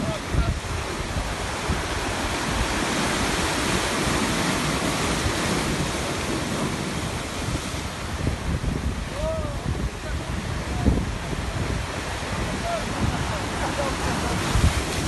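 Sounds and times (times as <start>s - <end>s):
sea surf washing ashore: 0.0s - 15.0s
wind rumbling on microphone: 0.0s - 15.0s.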